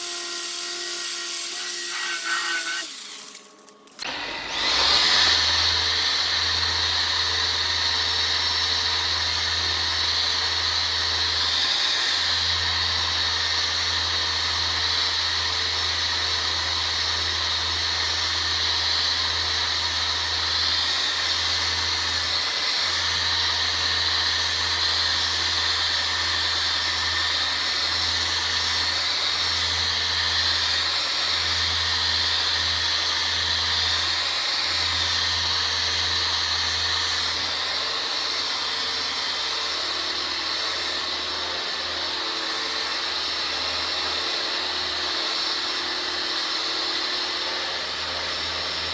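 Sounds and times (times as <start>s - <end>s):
power sander whirring on metal: 0.0s - 48.9s.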